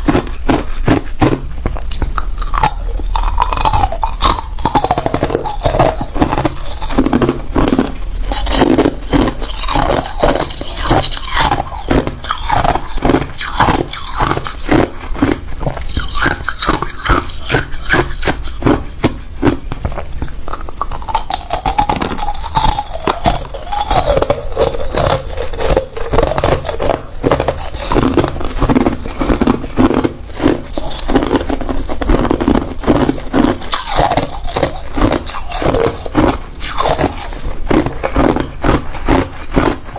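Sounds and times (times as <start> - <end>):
ice cubes crunching between teeth: 0.0 - 39.9.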